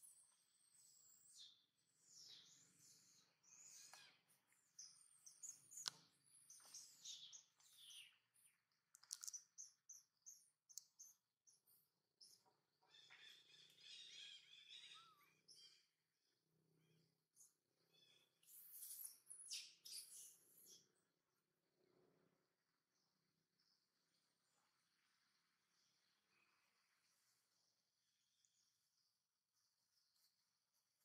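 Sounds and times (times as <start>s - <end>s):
faint bird chirps: 0.0s - 21.2s, 23.0s - 31.0s.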